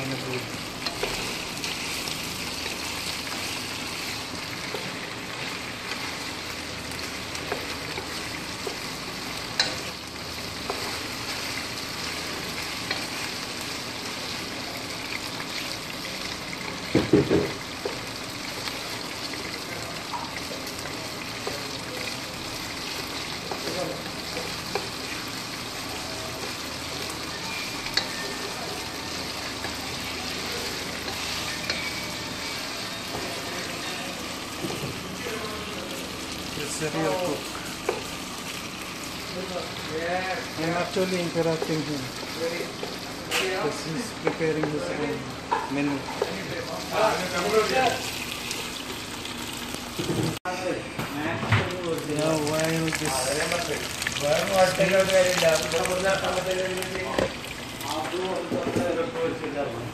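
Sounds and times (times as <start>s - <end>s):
chicken sizzling in a pan: 0.0s - 58.8s.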